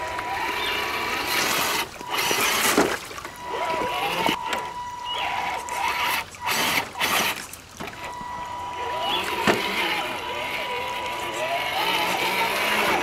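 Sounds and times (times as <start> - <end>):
electric motor and drivetrain whirring: 0.0 - 13.0
running water: 0.0 - 13.0.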